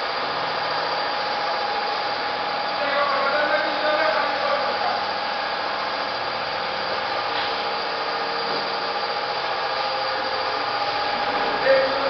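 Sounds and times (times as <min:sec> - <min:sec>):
milling machine whirring: 0:00.0 - 0:12.0.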